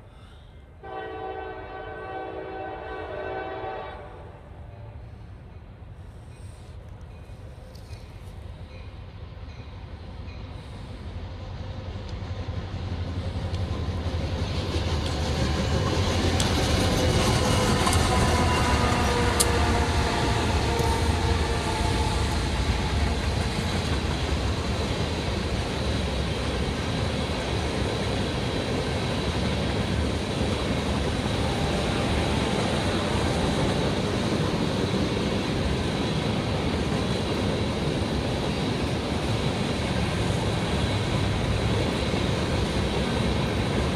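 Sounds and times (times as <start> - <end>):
diesel locomotives passing: 0.0 - 43.9
train wheels rolling on rails: 4.6 - 43.9.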